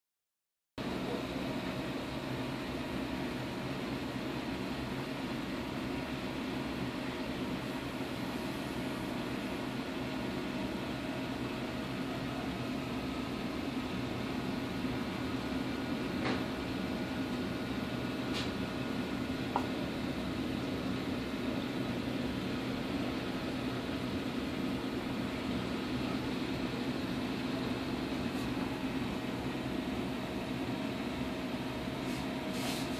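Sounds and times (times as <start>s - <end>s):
low mechanical hum with hiss: 0.8s - 32.9s.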